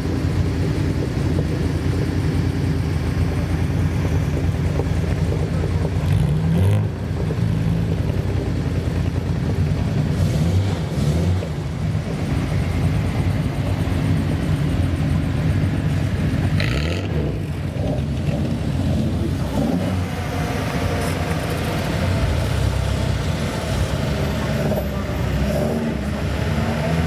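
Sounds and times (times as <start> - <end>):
car engine exhaust rumble: 0.0 - 27.0.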